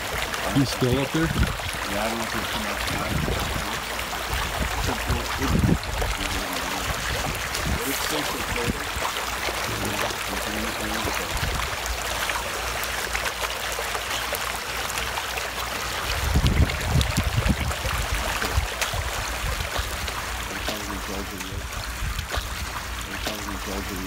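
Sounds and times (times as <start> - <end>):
water sloshing and trickling: 0.0 - 24.0.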